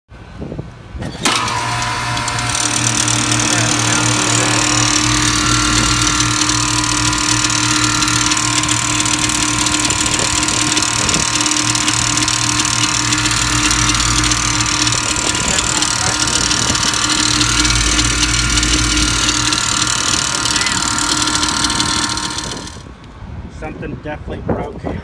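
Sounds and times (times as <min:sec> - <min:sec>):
compressor humming: 0:01.0 - 0:23.2.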